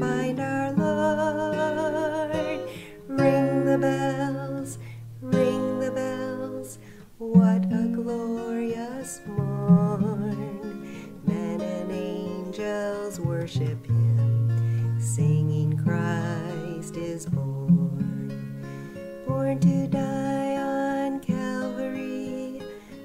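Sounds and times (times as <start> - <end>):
strummed acoustic guitar: 0.0 - 23.0
woman singing: 0.0 - 23.0.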